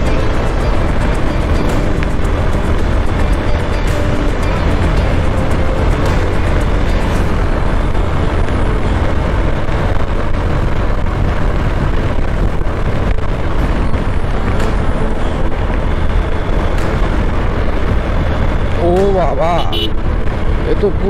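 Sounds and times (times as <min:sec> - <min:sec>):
motorcycle engine: 0:00.0 - 0:21.0
road noise: 0:00.0 - 0:21.0
wind roar on microphone: 0:00.0 - 0:21.0.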